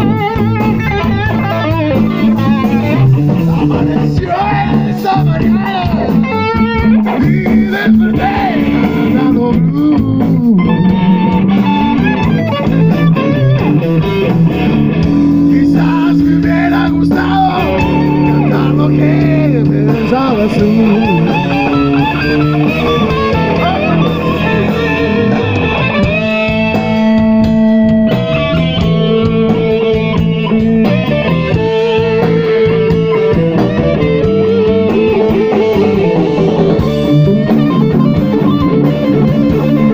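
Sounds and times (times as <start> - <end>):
drums keeping time: 0.0 - 39.9
electric guitar long held note: 0.0 - 39.9
live blues band playing: 0.0 - 39.9.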